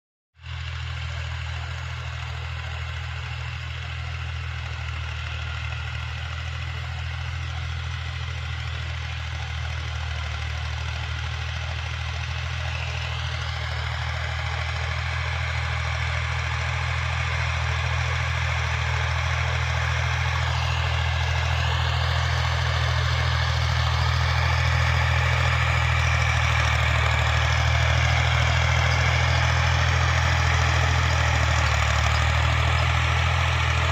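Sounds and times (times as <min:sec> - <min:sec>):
tractor engine running: 0:00.4 - 0:33.9.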